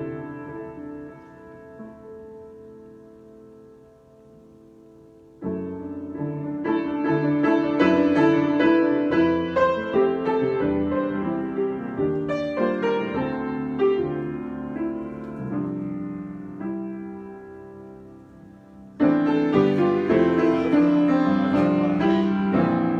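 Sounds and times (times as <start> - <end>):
solo piano: 0.0 - 22.9.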